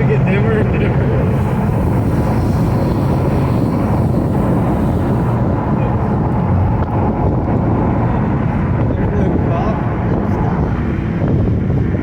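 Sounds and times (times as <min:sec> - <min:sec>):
car engine drone while cruising: 0:00.0 - 0:12.0
road noise: 0:00.0 - 0:12.0.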